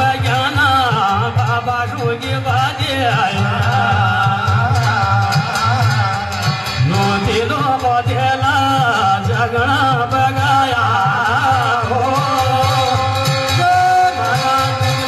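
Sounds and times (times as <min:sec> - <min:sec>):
man singing: 0:00.0 - 0:15.0
steady drum beat: 0:00.0 - 0:15.0.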